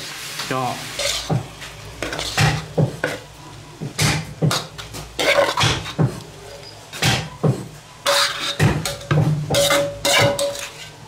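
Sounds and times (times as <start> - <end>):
metal utensil scraping a wok: 0.1 - 11.0.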